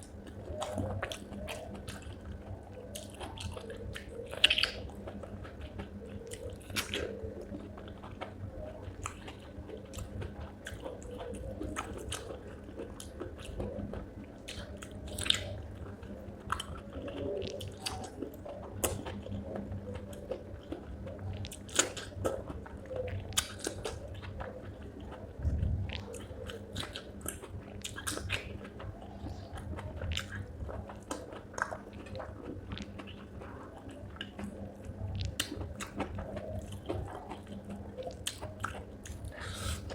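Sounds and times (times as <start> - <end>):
chewing and crunching: 0.0 - 39.9
faint low hum: 0.0 - 39.9.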